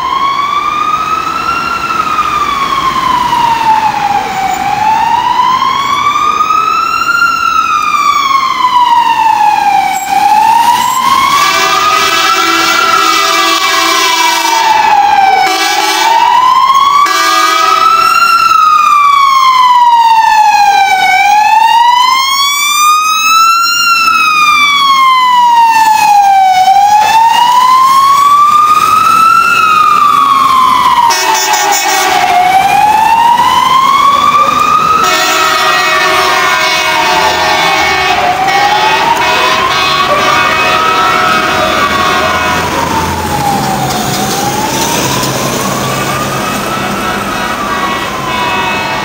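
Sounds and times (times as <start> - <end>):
fire engine siren wailing: 0.0 - 49.0.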